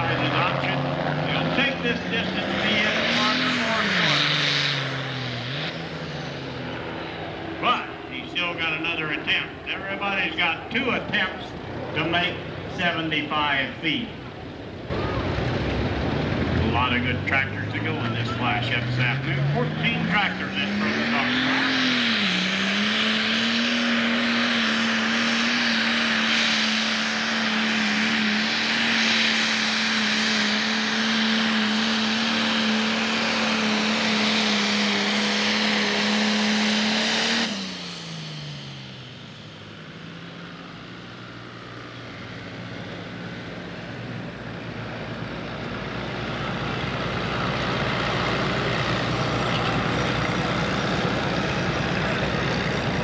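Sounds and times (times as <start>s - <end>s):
tractor diesel engine at full throttle: 0.0s - 53.0s.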